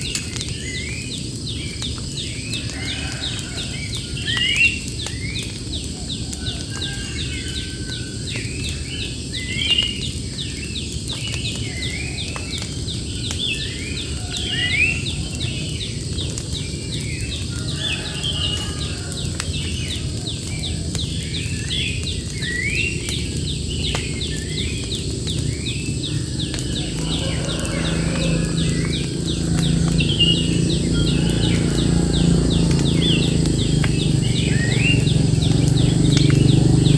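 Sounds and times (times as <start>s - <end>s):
birds singing rising notes: 0.0s - 36.9s.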